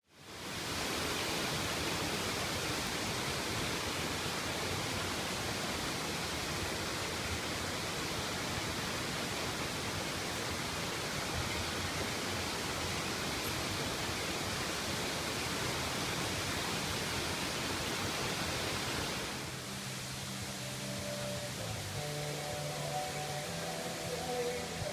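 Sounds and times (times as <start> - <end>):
falling water rushing: 0.0 - 24.9.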